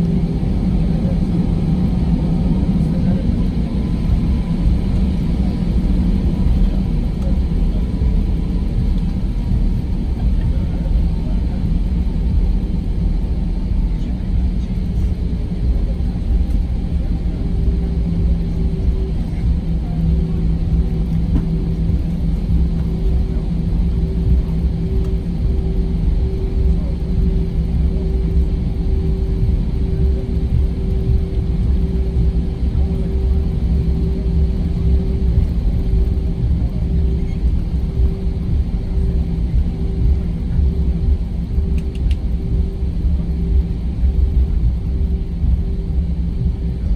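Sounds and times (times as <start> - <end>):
airplane cabin rumble: 0.0 - 46.9
steady engine hum: 0.0 - 46.9.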